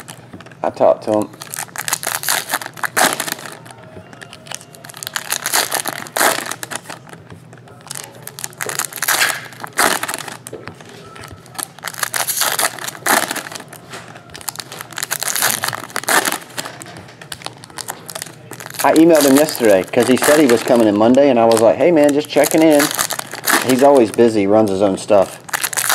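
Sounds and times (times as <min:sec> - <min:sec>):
foil wrappers crinkling: 0:00.0 - 0:07.2, 0:07.8 - 0:25.9.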